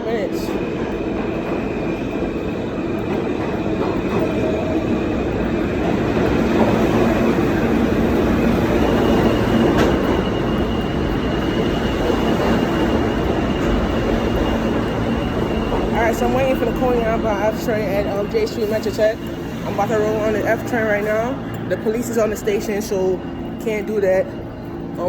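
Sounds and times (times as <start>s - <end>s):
subway train on rails: 0.0s - 25.0s.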